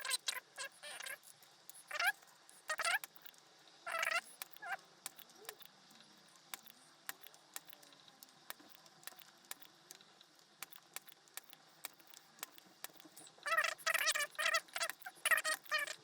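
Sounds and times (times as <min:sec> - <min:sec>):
faint small clicks and ticks: 0:00.0 - 0:16.0.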